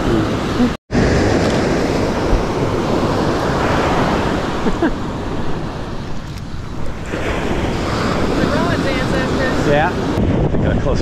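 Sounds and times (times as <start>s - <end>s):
ocean surf breaking: 0.0s - 10.4s
wind noise on microphone: 0.0s - 11.0s.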